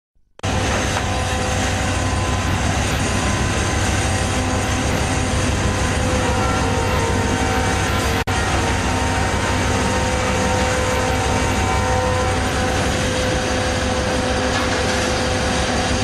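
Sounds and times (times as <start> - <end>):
boat engine and machinery drone: 0.4 - 16.0.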